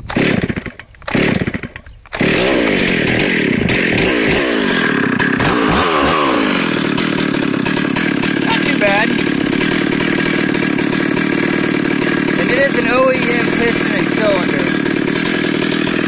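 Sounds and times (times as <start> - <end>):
chainsaw engine running: 0.0 - 16.0.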